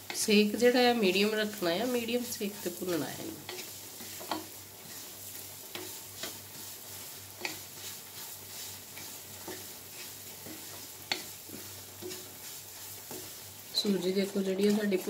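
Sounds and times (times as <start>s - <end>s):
semolina sizzling in a pan: 0.0s - 15.0s
wooden spatula scraping a pan: 0.0s - 15.0s.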